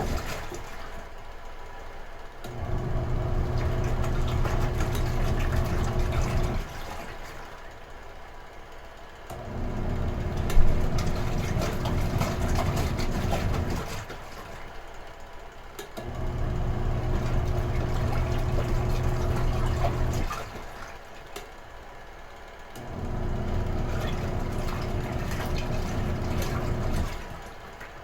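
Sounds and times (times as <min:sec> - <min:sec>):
washing machine motor: 0:00.0 - 0:01.2, 0:02.4 - 0:07.9, 0:09.2 - 0:15.1, 0:15.8 - 0:21.4, 0:22.5 - 0:28.0
water churning in tub: 0:00.0 - 0:01.2, 0:02.5 - 0:07.8, 0:09.3 - 0:15.0, 0:16.0 - 0:21.4, 0:22.8 - 0:28.0.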